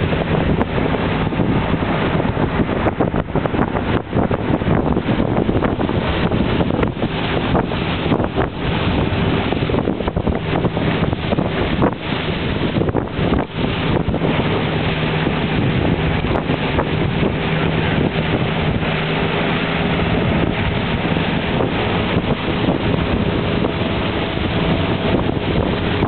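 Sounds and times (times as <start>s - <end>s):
boat engine hum: 0.0s - 26.0s
water rushing along hull: 0.0s - 26.0s
wind buffeting microphone: 0.0s - 26.0s.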